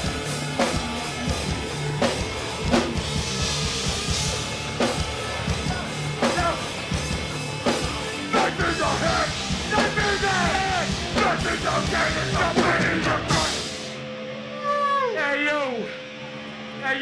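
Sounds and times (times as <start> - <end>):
drum kit pounding: 0.0 - 14.0
sustained bass notes: 0.0 - 14.0.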